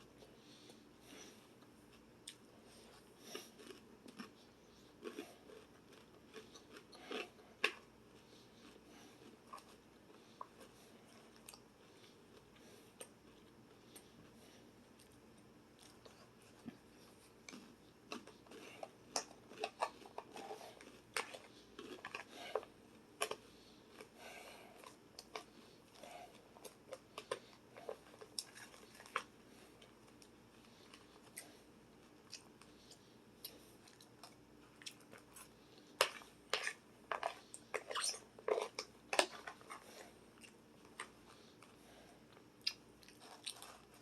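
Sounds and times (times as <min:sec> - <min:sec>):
person chewing crunchy food: 0:01.1 - 0:44.0.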